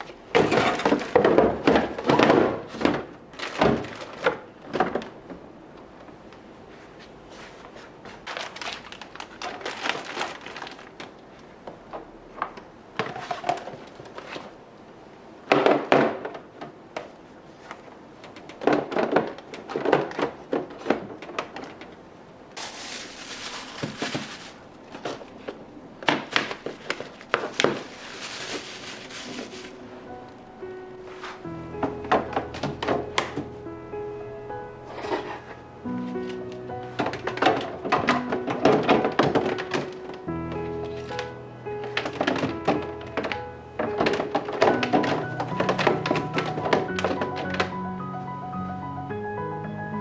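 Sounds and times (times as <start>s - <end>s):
rustling: 0.0s - 5.2s, 6.2s - 15.0s, 15.6s - 33.7s, 34.6s - 47.8s
plastic containers knocking and clattering: 0.0s - 6.2s, 8.1s - 14.6s, 15.4s - 29.8s, 31.2s - 33.6s, 36.2s - 47.7s.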